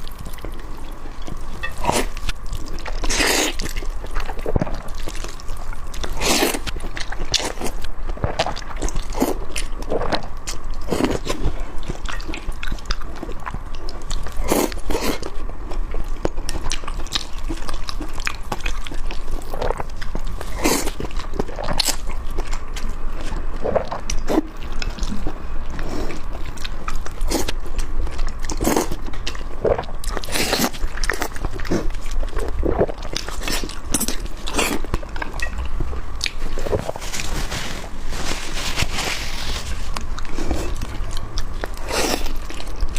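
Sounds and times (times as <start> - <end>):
person chewing and smacking: 0.0 - 38.0, 39.6 - 42.9
food crunching: 0.0 - 42.9.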